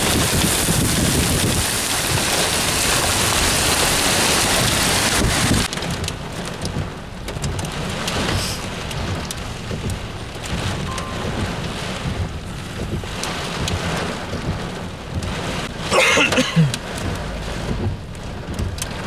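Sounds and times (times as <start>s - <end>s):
heavy rain downpour: 0.0s - 19.0s
rain drop ticks: 0.0s - 19.0s.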